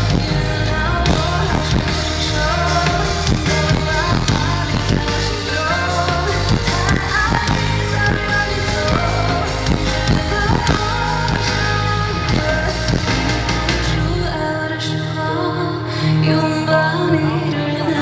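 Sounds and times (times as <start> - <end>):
live band playing pop ballad: 0.0 - 18.0.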